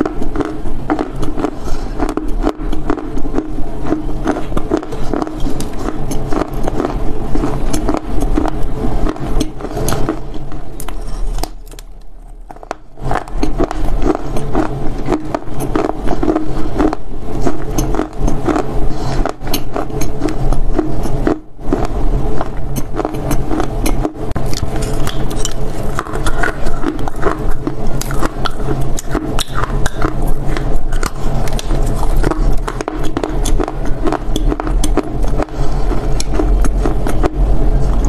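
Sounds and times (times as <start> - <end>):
clay being chewed crunching: 0.0 - 38.0.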